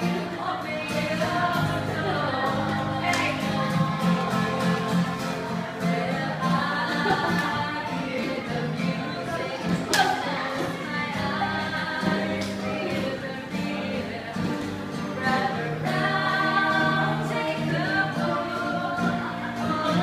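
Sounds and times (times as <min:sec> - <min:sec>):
acoustic guitar: 0:00.0 - 0:20.0
group of voices singing: 0:00.0 - 0:20.0.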